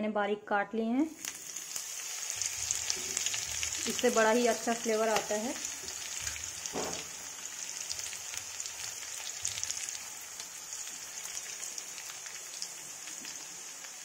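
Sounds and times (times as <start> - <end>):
leaves and seeds sizzling in oil: 1.1 - 14.0.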